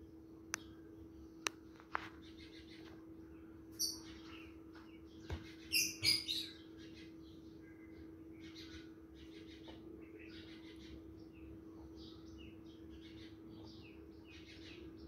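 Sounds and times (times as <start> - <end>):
steady low hum: 0.0 - 15.0
faint high chirping: 2.2 - 15.0.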